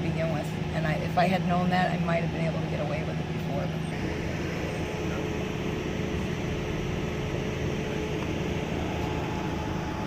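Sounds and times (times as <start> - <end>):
steady mechanical drone: 0.0 - 10.0.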